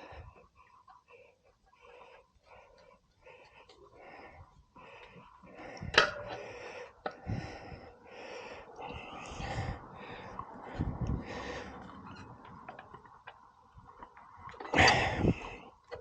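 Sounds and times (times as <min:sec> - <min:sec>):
man breathing hard: 0:00.0 - 0:12.1, 0:14.7 - 0:15.8.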